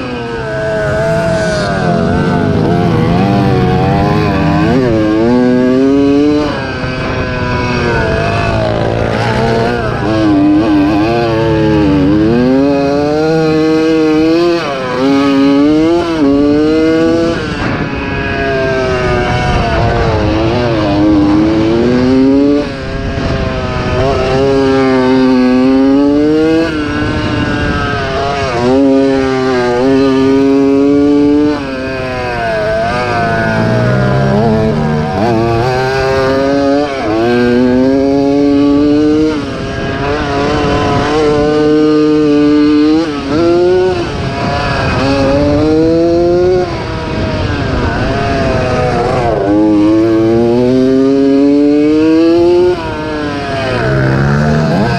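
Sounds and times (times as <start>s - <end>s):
two-stroke motorbike engine revving: 0.0s - 54.9s.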